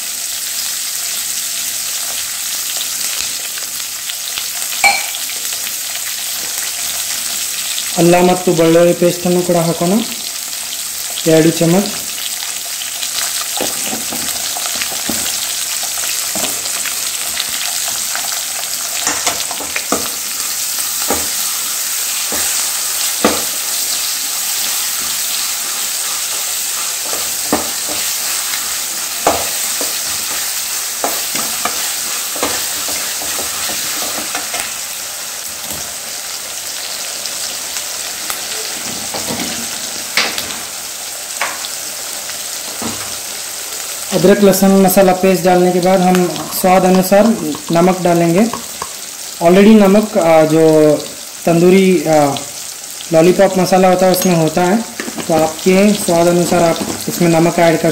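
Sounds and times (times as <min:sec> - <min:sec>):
onions sizzling in hot oil: 0:00.0 - 0:57.9.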